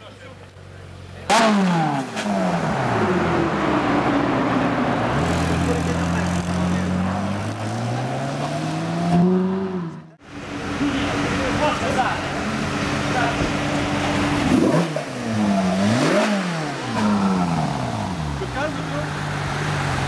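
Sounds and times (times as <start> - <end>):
sports car engine revving: 0.9 - 20.0.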